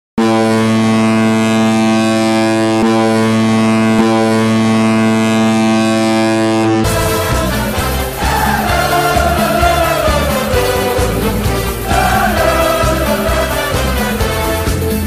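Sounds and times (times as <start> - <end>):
deep goal horn blast: 0.2 - 15.0.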